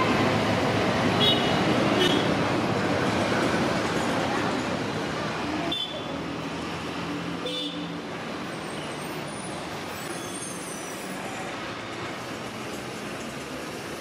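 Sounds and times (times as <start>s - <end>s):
rumble of moving train: 0.0s - 14.0s.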